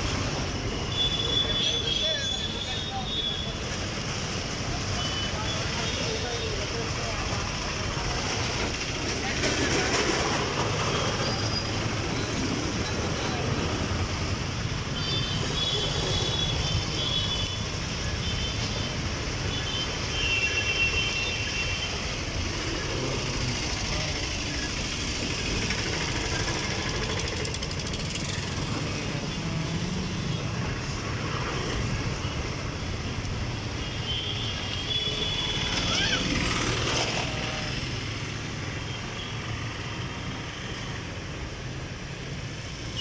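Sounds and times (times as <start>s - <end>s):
road traffic: 0.0s - 43.0s
train coaches rolling on track: 0.0s - 43.0s.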